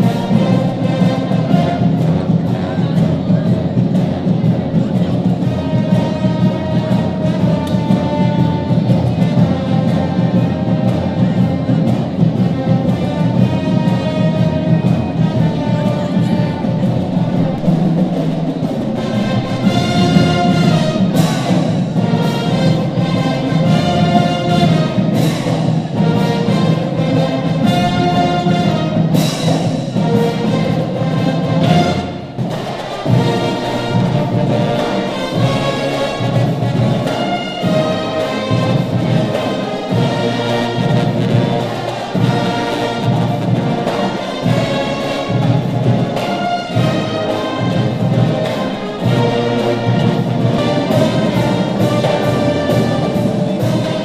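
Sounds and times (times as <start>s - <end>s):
brass band playing: 0.0s - 54.0s
drum beat: 0.0s - 54.0s.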